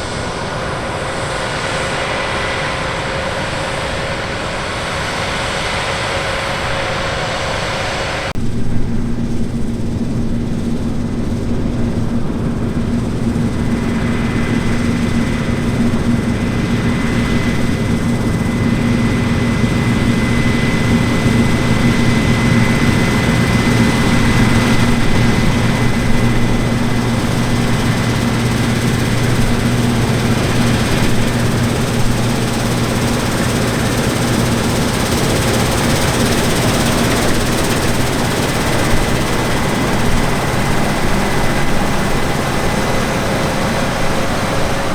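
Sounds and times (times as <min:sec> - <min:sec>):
large diesel engine running: 0:02.7 - 0:44.9.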